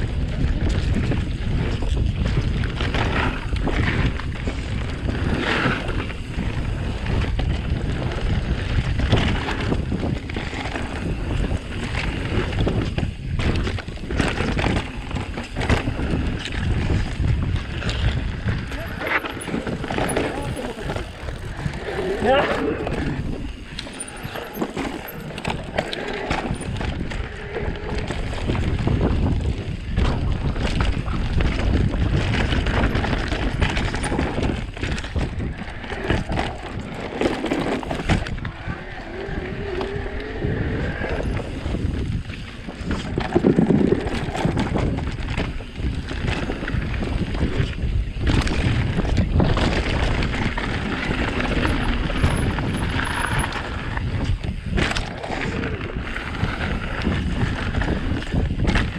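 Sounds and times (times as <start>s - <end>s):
tyres rumbling over rough ground: 0.0s - 58.9s
wind buffeting microphone: 0.0s - 58.9s.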